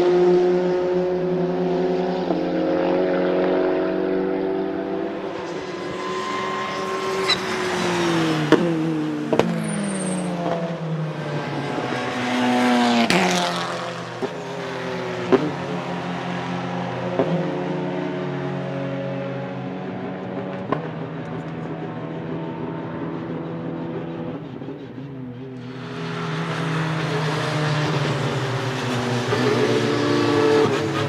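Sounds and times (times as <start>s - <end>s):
car engine revving: 0.0s - 18.0s, 19.8s - 31.0s.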